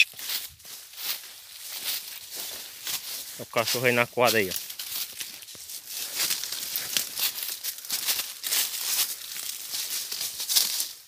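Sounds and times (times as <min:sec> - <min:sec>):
dry leaves and twigs rustling: 0:00.0 - 0:11.0.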